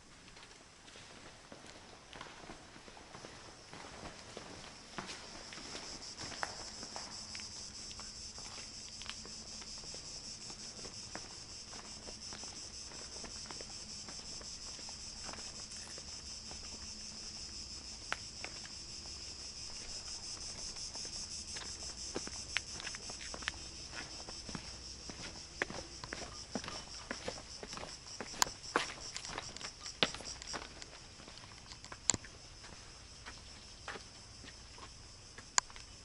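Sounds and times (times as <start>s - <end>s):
footsteps clicking: 1.5s - 35.9s
high-pitched insect chorus: 3.0s - 36.0s.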